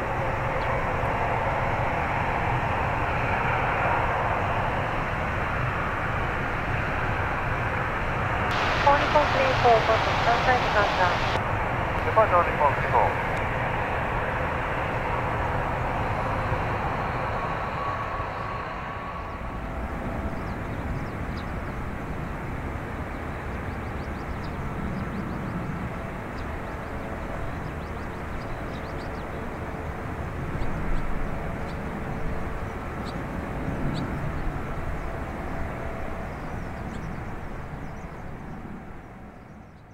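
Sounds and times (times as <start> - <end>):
jet engine rumble: 0.0 - 39.9.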